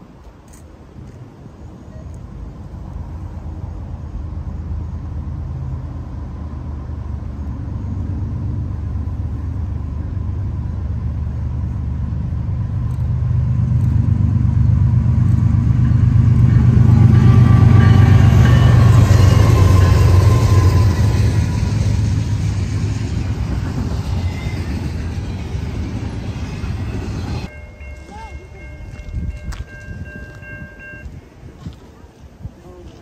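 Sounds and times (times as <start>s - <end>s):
diesel locomotive engines: 0.0s - 33.0s
train rumble on rails: 0.0s - 33.0s.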